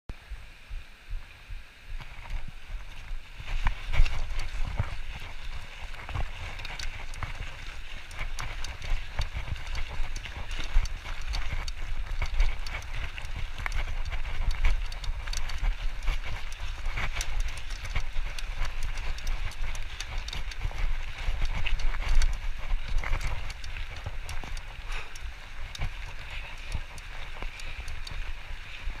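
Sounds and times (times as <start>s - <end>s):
bike clicks and rattles: 2.0s - 29.0s
bike tyres crunching on gravel: 2.0s - 29.0s.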